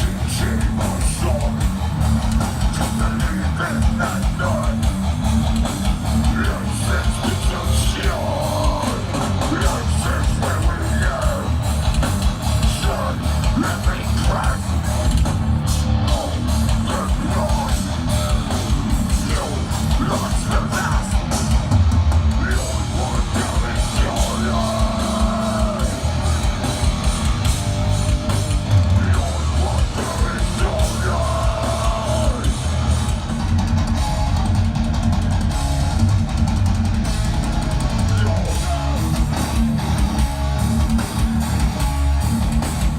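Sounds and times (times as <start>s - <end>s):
heavy rock band playing: 0.0s - 42.9s.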